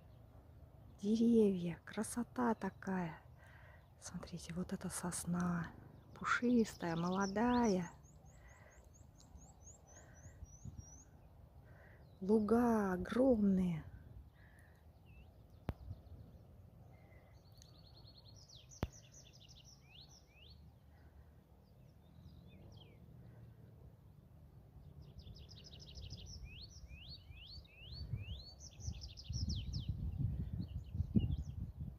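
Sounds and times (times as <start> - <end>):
songbirds singing: 0.0 - 31.9.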